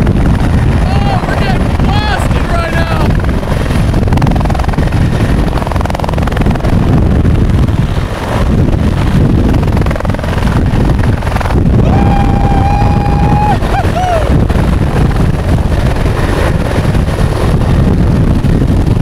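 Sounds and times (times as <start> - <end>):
helicopter rotor and turbine: 0.0 - 19.0
wind buffeting microphone: 0.0 - 19.0.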